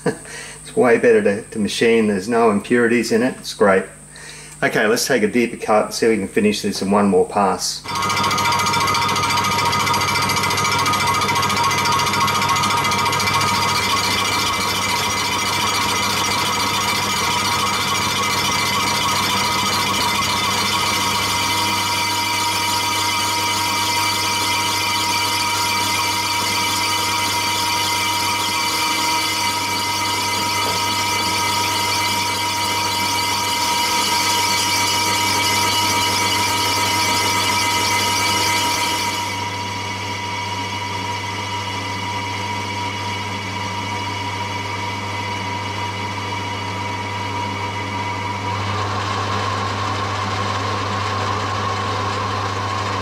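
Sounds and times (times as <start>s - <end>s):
drill on spinning metal: 7.8s - 53.0s
metal lathe whine: 7.8s - 53.0s.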